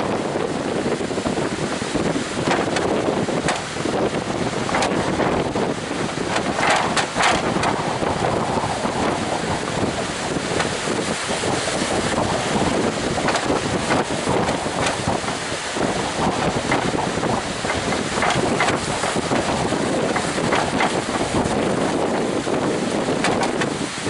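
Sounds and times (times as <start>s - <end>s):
heavy surf: 0.0s - 24.0s
wind gusting on microphone: 0.0s - 24.0s.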